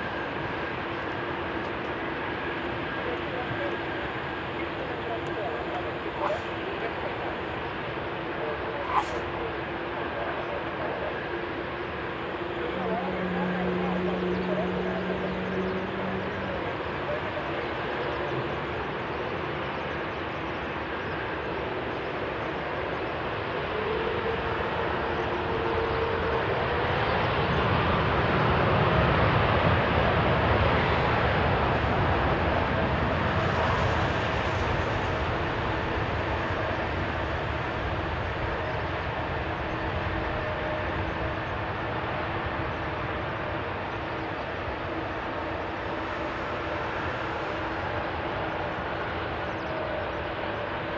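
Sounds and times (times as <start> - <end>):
jet engines running: 0.0 - 50.9.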